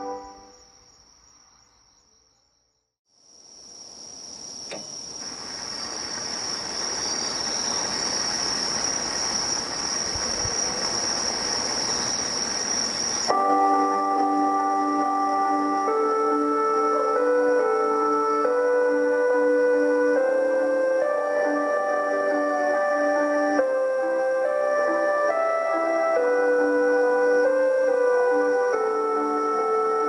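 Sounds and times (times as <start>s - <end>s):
background hiss: 0.0s - 30.0s
insects chirring: 0.0s - 30.0s.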